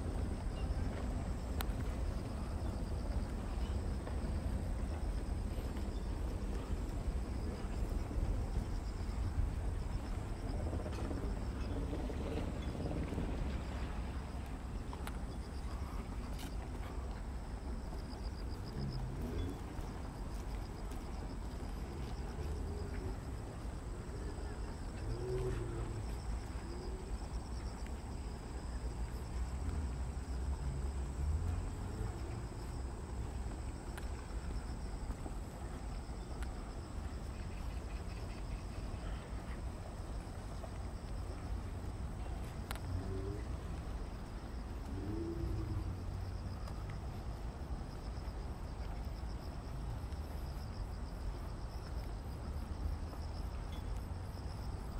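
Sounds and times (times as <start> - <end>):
insects chirping: 0.0 - 54.9
low outdoor rumble: 0.0 - 54.9.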